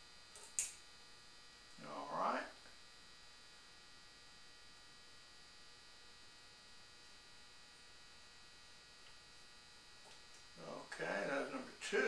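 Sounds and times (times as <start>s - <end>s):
faint electrical hum: 0.0s - 12.0s
thin high whine: 0.0s - 12.0s.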